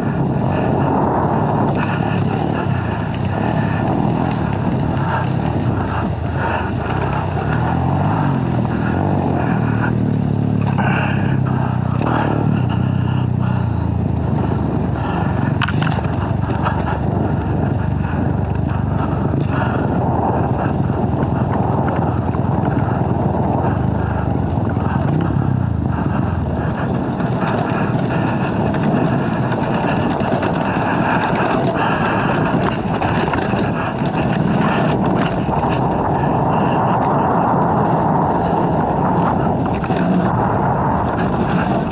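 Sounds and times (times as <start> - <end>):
dirt bike engine running: 0.0 - 41.9
steady rush of noise: 0.0 - 41.9.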